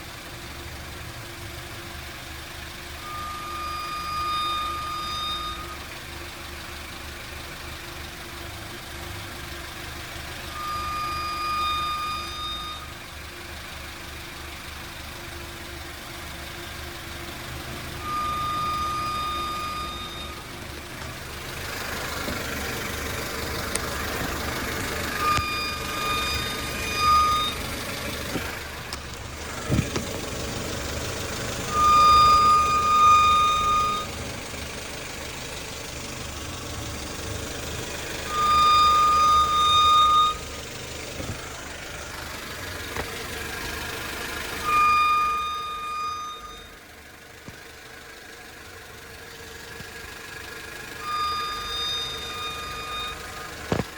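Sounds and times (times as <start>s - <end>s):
car engine humming: 0.0s - 53.9s
car high-pitched whine: 0.0s - 53.9s.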